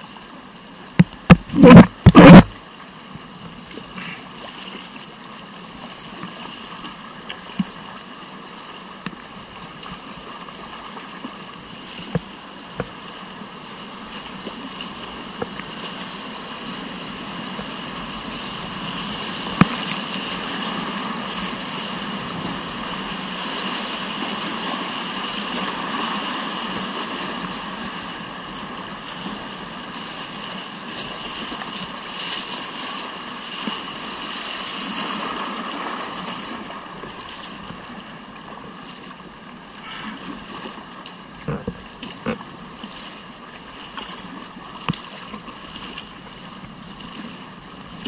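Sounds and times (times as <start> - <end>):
rushing whitewater: 0.0 - 48.0.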